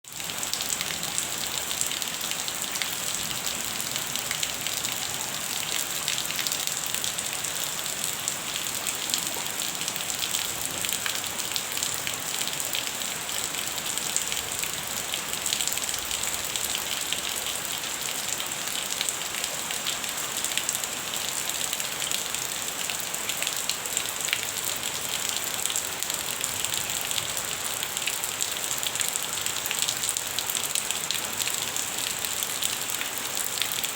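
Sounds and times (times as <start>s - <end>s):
light rain falling: 0.0s - 33.9s.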